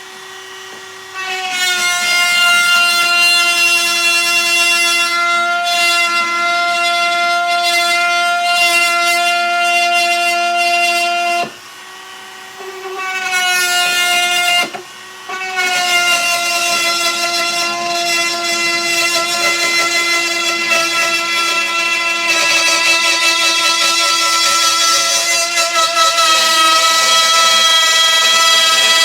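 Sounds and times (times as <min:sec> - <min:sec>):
power tool motor whining: 0:00.0 - 0:29.0.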